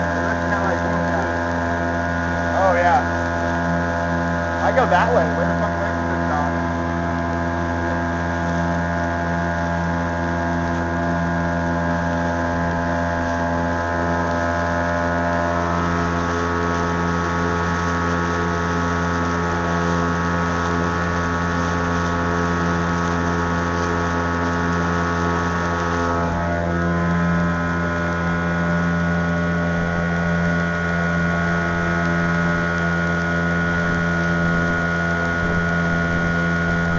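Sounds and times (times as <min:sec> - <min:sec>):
small boat motor running: 0:00.0 - 0:36.9.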